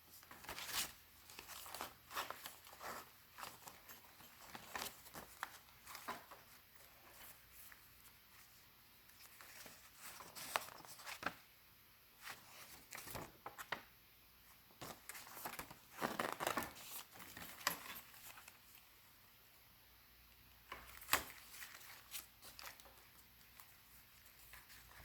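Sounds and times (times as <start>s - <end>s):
paper pages rustling: 0.1s - 11.4s, 12.2s - 13.8s, 14.8s - 18.9s, 20.7s - 25.0s.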